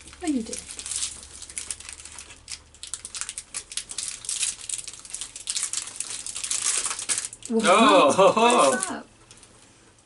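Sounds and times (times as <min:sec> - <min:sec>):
candy wrapper crinkling: 0:00.0 - 0:07.7, 0:08.5 - 0:09.6.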